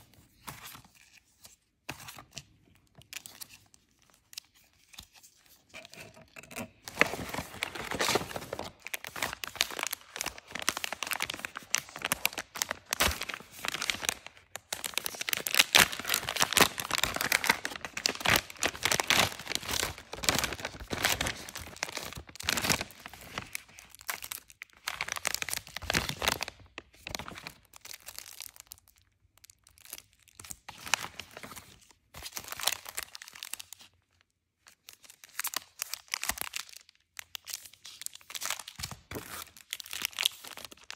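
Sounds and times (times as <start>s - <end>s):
plastic packaging crinkling: 3.0s - 33.9s, 34.8s - 40.9s.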